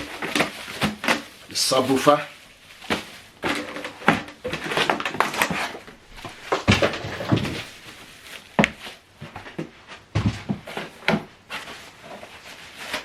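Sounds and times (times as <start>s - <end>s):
packaging rustling and knocking: 0.0s - 1.9s, 2.6s - 13.0s.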